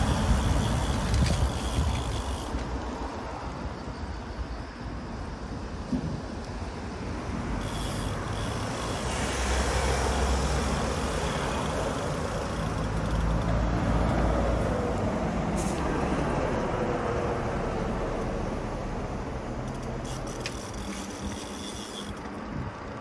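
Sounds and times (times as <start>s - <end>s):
wind hiss: 0.0s - 16.0s, 18.7s - 23.0s
tyres rumbling on asphalt: 0.0s - 23.0s.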